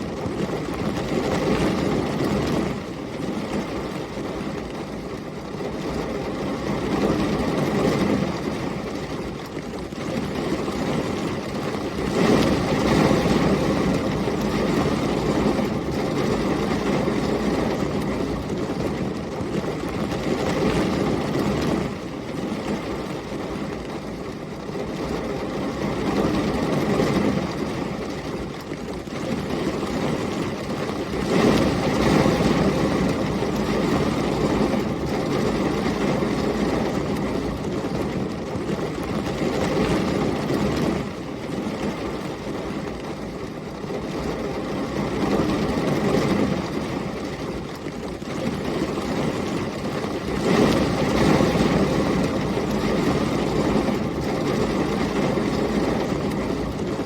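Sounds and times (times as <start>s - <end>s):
heavy rain: 0.0s - 57.0s
storm wind: 0.0s - 57.0s.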